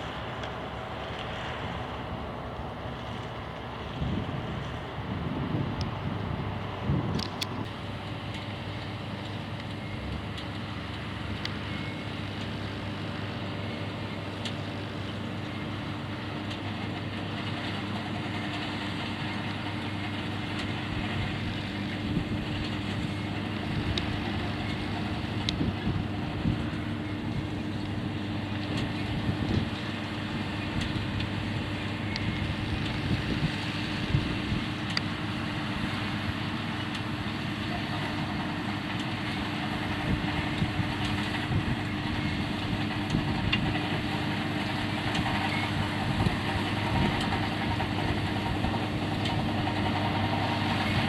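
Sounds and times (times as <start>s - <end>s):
harvesting machinery engine hum: 0.0s - 51.0s.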